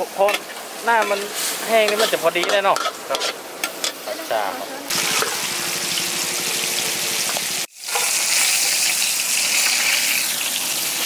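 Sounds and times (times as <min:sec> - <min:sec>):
squid sizzling in hot oil: 0:00.0 - 0:11.0.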